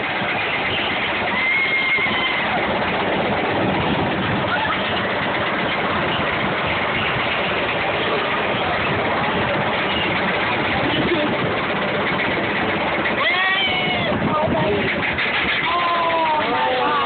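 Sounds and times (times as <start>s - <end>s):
roller coaster lift rumble: 0.0s - 17.0s.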